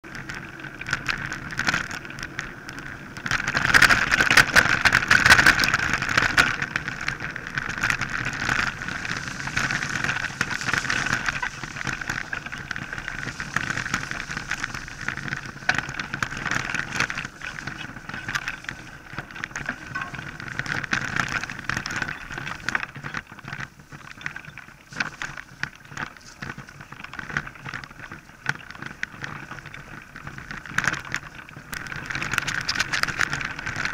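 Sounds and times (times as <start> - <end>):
bike rattling and knocking: 0.0 - 33.9
wind noise: 0.0 - 33.9
tyre noise: 0.1 - 33.9.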